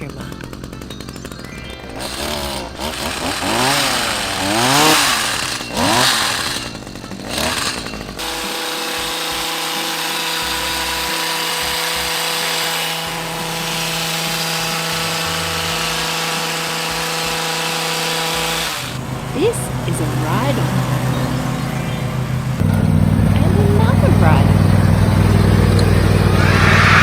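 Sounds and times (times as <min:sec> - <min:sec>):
toy hedge trimmer motor: 0:00.0 - 0:27.0.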